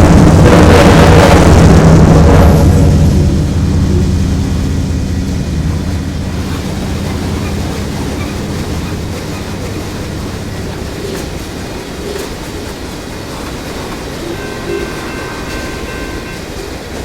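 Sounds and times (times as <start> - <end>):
diesel locomotive rumble: 0.0 - 17.0
train cars rolling on rails: 0.0 - 17.0.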